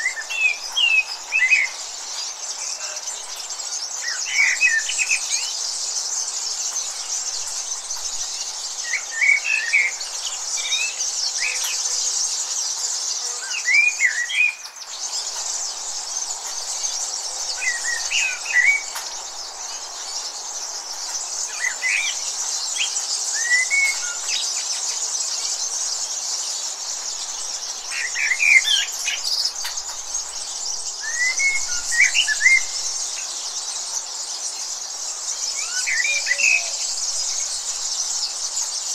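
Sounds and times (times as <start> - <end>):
birds chirping: 0.0 - 38.9
high insect drone: 0.0 - 38.9.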